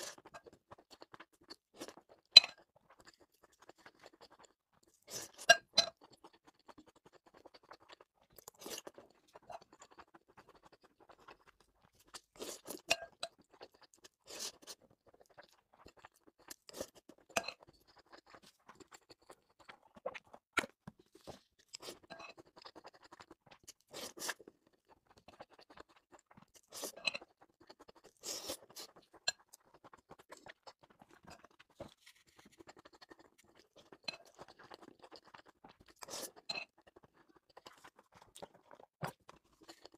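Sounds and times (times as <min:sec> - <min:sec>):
chewing and crunching rice: 0:00.0 - 0:39.9.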